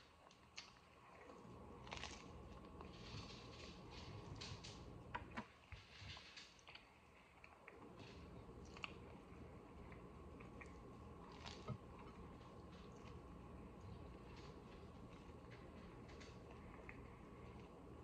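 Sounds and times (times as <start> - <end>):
faint chewing: 0.0 - 5.0, 5.6 - 18.0.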